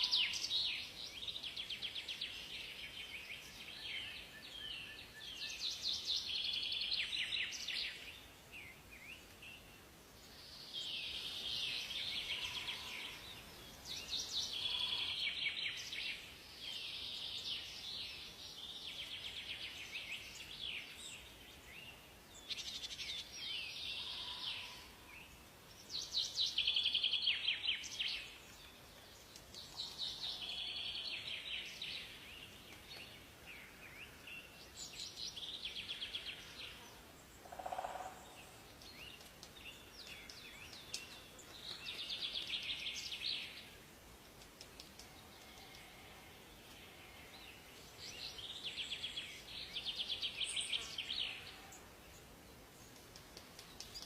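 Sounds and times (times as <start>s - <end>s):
songbirds trilling: 0.0s - 43.8s, 44.6s - 54.0s
faint background hiss: 0.0s - 54.0s.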